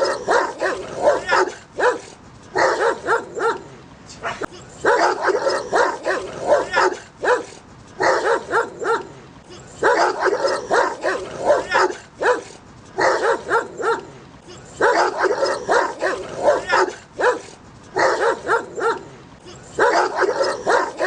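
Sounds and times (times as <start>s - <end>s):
dogs barking aggressively: 0.0s - 21.0s.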